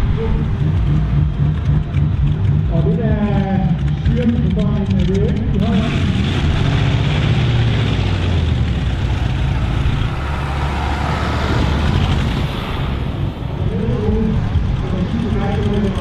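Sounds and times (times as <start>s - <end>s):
tractor engine running hard: 0.0s - 16.0s.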